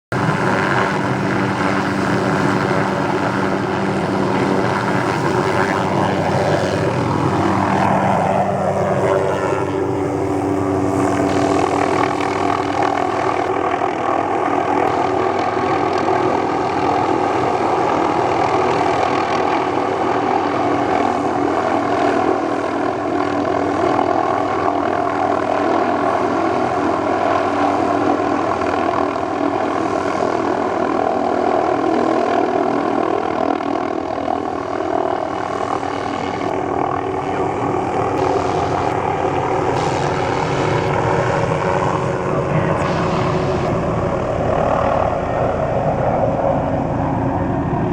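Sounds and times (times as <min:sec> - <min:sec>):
helicopter engine and rotor: 0:00.1 - 0:47.9.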